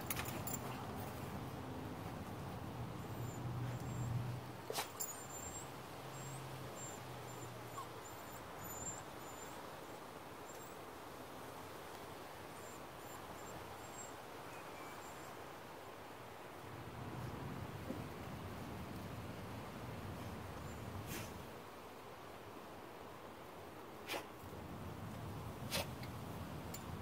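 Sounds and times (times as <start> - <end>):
background hiss: 3.6 - 27.0.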